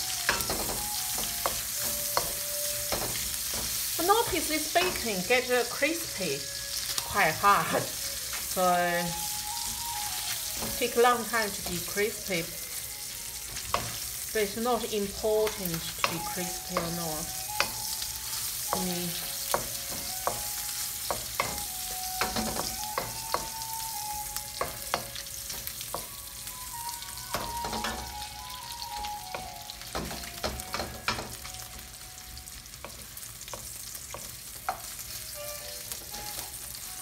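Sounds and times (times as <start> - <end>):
bacon sizzling in oil: 0.0 - 37.0
spatula tapping and scraping wok: 0.2 - 5.2, 9.5 - 12.3, 13.3 - 14.3, 15.0 - 31.8, 32.7 - 36.9.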